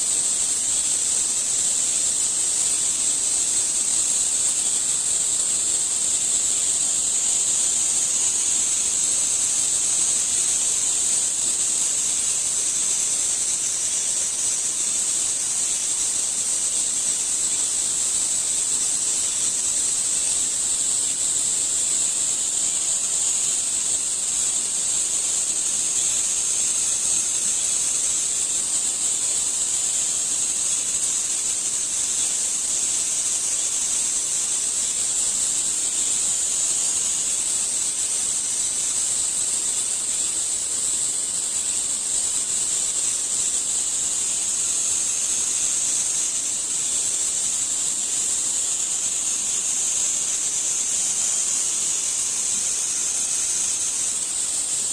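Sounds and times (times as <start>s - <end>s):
high-pitched hiss: 0.0s - 54.9s.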